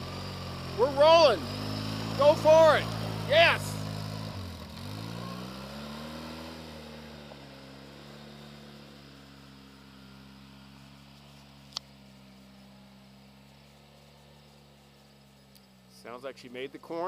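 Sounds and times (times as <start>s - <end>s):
atv engine accelerating: 0.0s - 17.0s.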